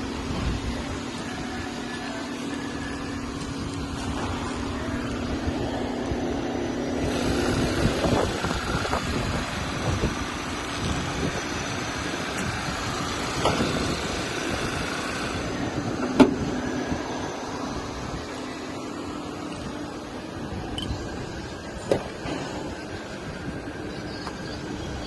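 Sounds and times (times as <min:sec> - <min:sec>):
car running noise: 0:00.0 - 0:25.0
steady hum: 0:00.0 - 0:25.0.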